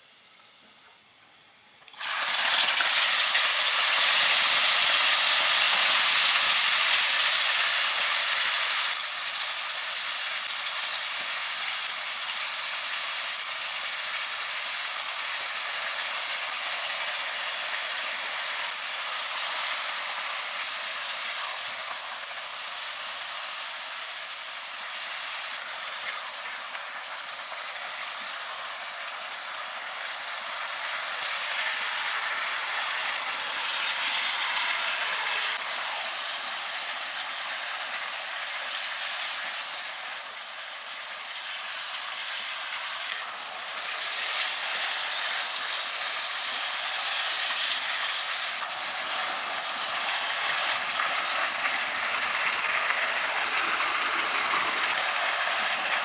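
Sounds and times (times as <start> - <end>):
beef sizzling in hot oil: 1.8 - 56.0.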